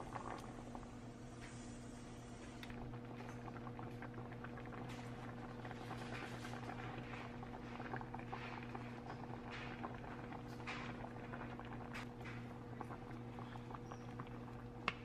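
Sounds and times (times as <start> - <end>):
sauce bubbling in a skillet: 0.0 - 15.0.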